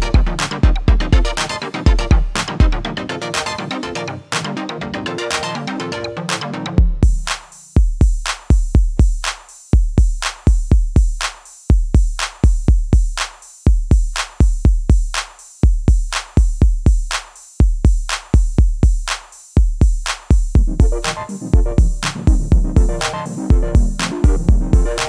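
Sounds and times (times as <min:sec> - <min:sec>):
drum machine beat: 0:00.0 - 0:04.6, 0:05.3 - 0:25.0.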